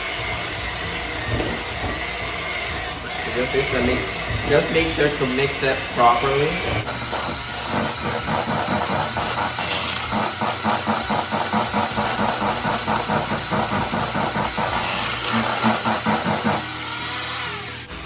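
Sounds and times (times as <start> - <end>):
electric mixer whining and rattling: 0.0 - 18.0.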